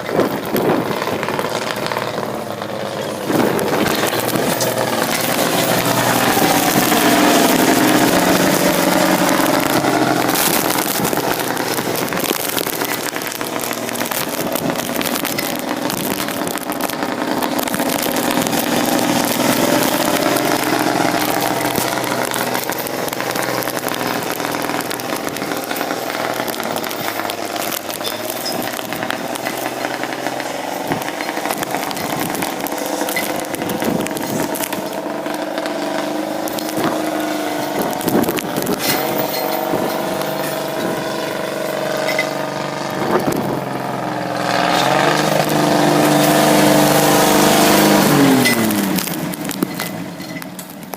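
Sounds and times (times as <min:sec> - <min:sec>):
crackle of small clicks: 0:00.0 - 0:50.9
snow vehicle engine revving: 0:00.0 - 0:50.9.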